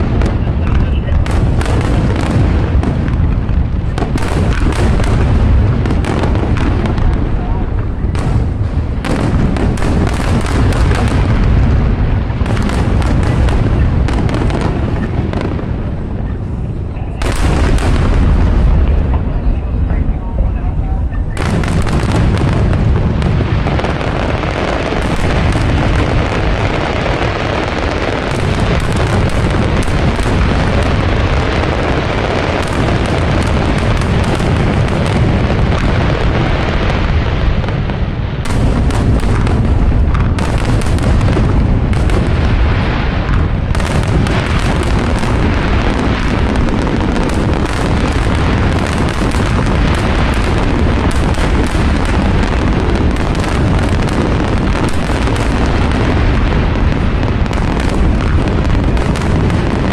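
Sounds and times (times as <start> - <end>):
fireworks booming: 0.0 - 59.9
sharp fireworks cracks: 0.0 - 59.9.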